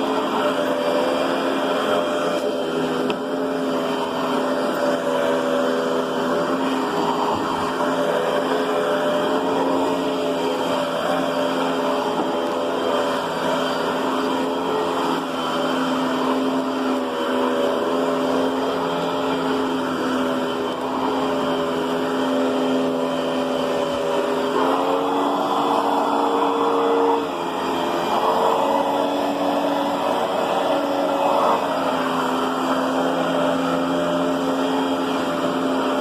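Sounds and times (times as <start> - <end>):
vacuum cleaner motor whining: 0.0 - 36.0.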